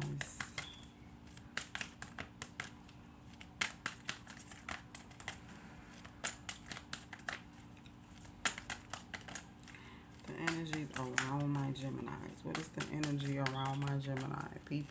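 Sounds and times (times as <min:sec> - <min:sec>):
cards being shuffled: 0:00.0 - 0:14.9.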